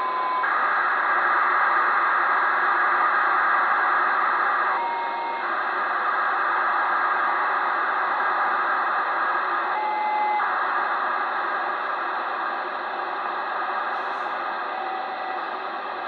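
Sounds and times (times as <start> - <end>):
radio telemetry buzzing hiss: 0.0 - 16.0.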